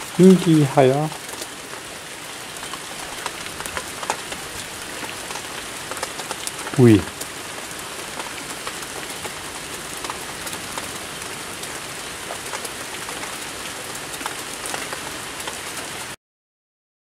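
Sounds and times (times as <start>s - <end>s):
heavy rain: 0.0s - 16.2s
raindrops ticking close by: 0.0s - 16.2s.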